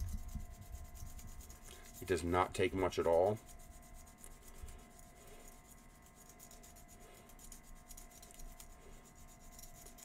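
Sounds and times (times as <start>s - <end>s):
sandpaper rubbing plastic: 0.0s - 10.0s.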